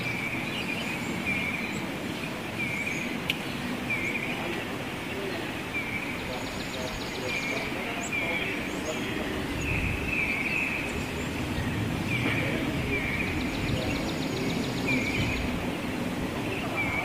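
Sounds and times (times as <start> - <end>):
birds calling high notes: 0.0 - 17.0.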